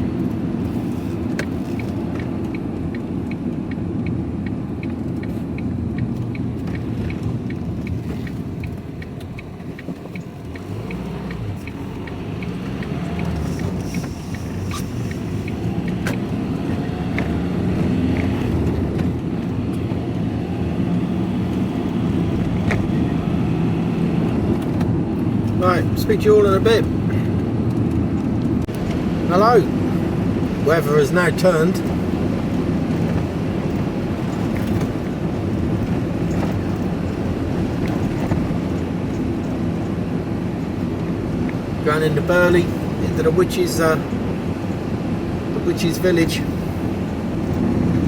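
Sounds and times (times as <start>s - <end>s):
engine and road noise in cab: 0.0s - 48.0s
turn indicator ticking: 0.0s - 48.0s.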